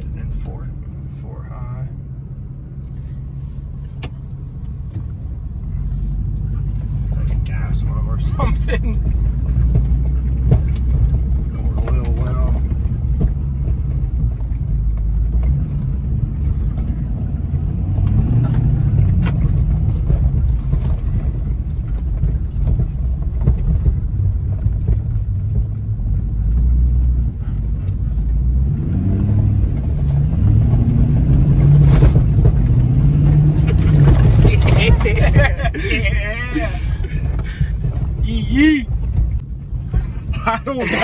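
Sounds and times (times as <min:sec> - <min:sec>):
diesel truck engine rumble: 0:00.0 - 0:41.0.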